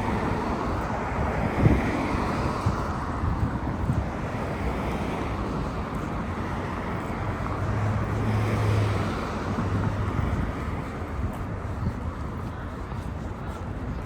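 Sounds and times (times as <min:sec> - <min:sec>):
rumble of passing traffic: 0:00.0 - 0:14.0
wind buffeting microphone: 0:00.0 - 0:14.0.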